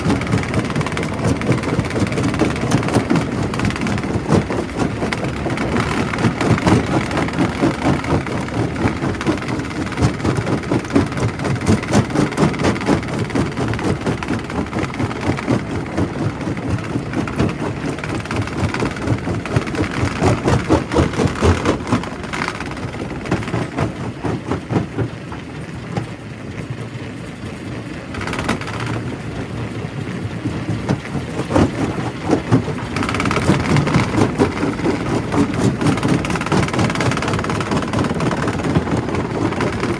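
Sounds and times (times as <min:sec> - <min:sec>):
crusher machine rumble: 0:00.0 - 0:26.4, 0:27.9 - 0:39.9.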